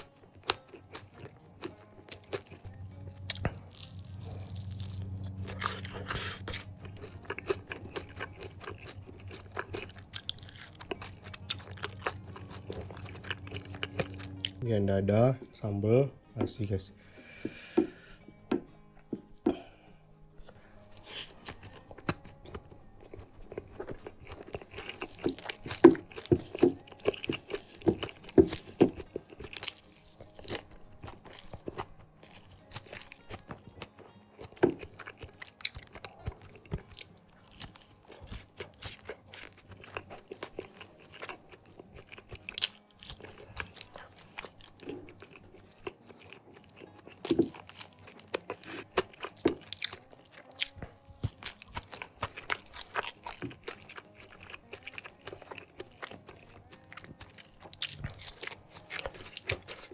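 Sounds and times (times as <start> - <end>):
chewing and crunching: 0.0 - 14.6, 18.9 - 59.9.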